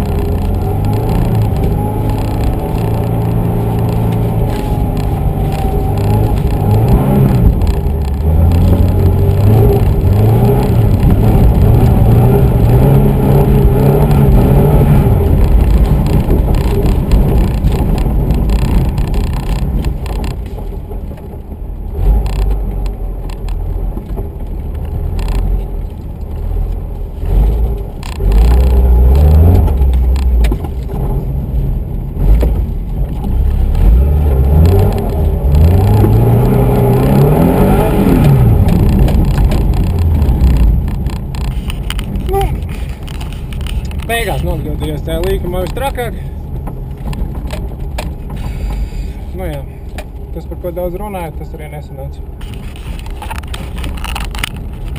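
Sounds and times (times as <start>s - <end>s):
car engine revving: 0.0s - 20.8s, 24.6s - 54.9s.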